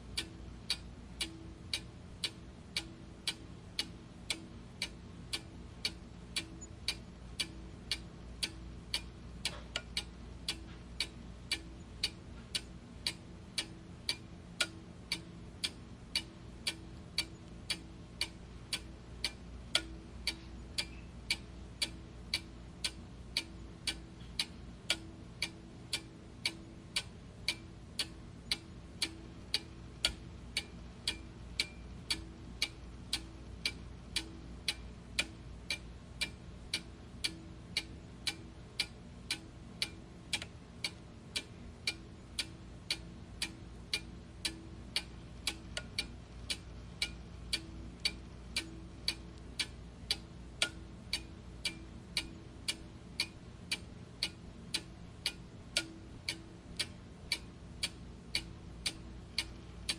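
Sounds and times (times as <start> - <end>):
clock ticking: 0.0 - 59.9
faint low hum: 0.0 - 59.9.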